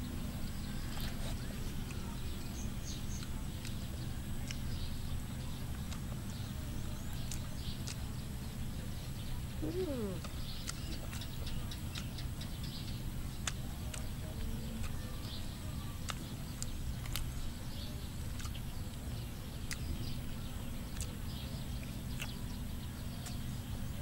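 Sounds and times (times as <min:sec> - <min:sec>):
chewing and lip smacks: 0:00.3 - 0:04.8, 0:05.4 - 0:23.5.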